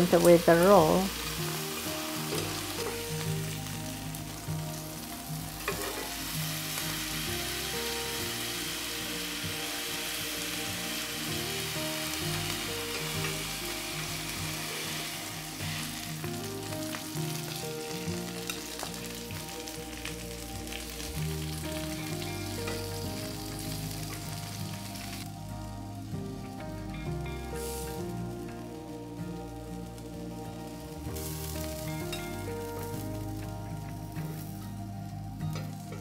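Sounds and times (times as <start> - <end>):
food sizzling in grill pan: 0.0 - 36.0
soft background music: 0.0 - 36.0.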